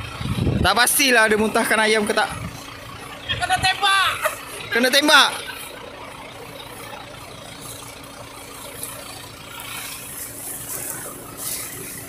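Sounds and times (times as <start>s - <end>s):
engine-like hum: 0.0s - 12.0s
constant tone: 1.1s - 12.0s.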